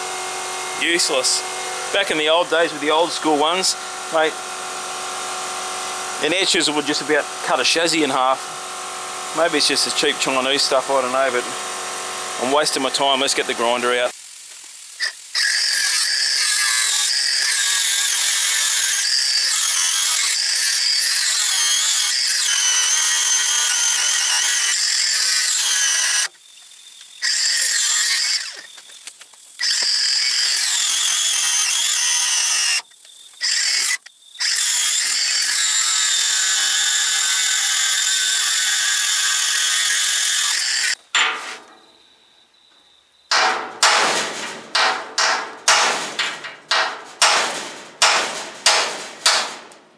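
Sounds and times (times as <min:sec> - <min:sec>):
angle grinder whining on steel: 0:00.0 - 0:14.2, 0:14.9 - 0:43.8.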